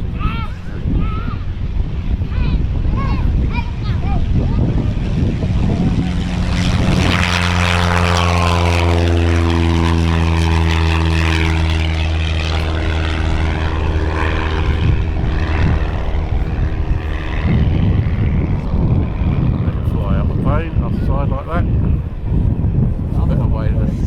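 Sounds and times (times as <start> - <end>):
propeller aircraft engine droning: 0.0 - 24.0.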